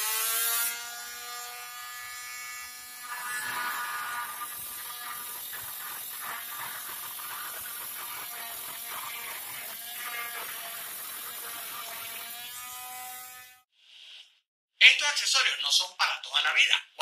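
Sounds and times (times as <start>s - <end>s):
multi-tool saw cutting copper pipe: 0.0s - 13.7s.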